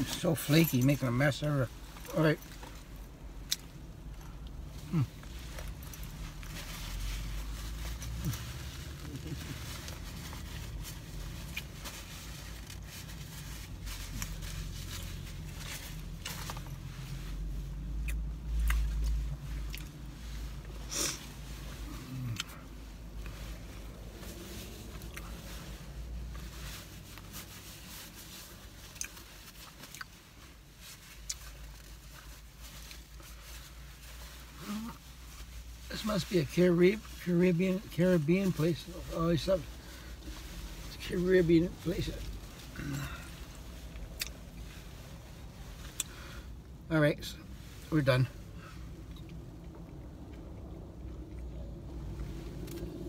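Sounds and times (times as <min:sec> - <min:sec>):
low hum inside car: 0:00.0 - 0:53.0.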